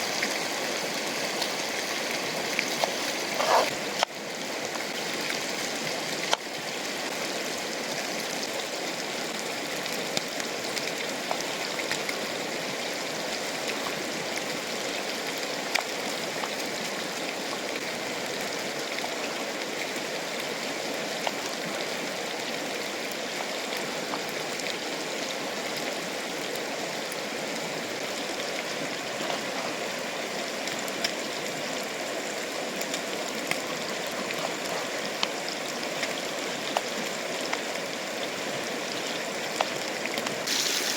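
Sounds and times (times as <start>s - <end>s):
river rushing: 0.0s - 40.9s.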